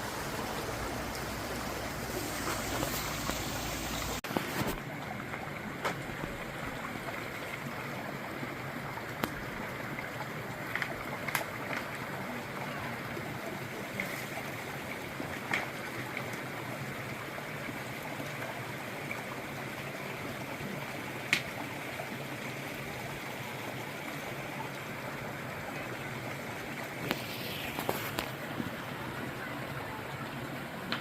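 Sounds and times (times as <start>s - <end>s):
stream water running: 0.0s - 31.0s.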